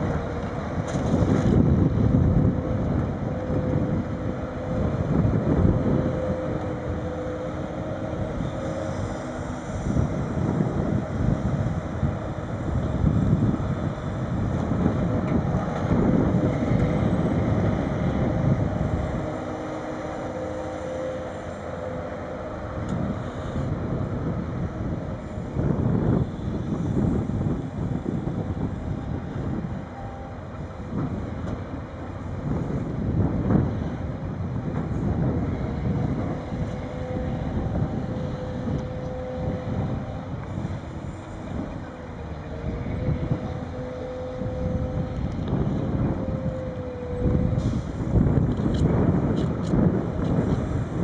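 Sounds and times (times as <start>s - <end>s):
heavy machine engine and hydraulics: 0.0s - 51.0s
wind buffeting microphone: 0.0s - 51.0s.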